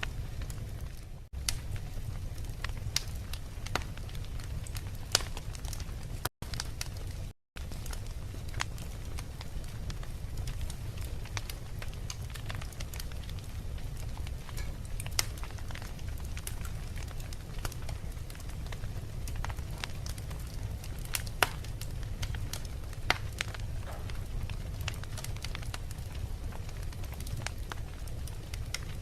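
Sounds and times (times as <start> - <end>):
fire low rumble: 0.0 - 29.0
logs crackling and popping: 0.0 - 29.0.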